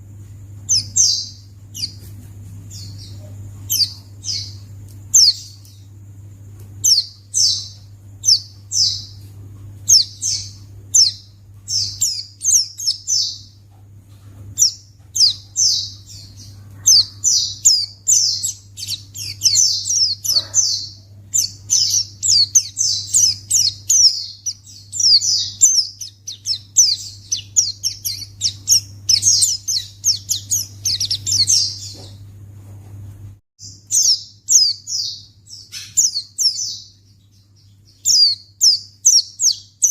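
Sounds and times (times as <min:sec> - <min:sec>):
steady low hum: 0:00.0 - 0:39.9
bird chirping and trilling: 0:00.6 - 0:02.1, 0:02.7 - 0:05.9, 0:06.8 - 0:13.7, 0:14.6 - 0:32.2, 0:33.6 - 0:39.9.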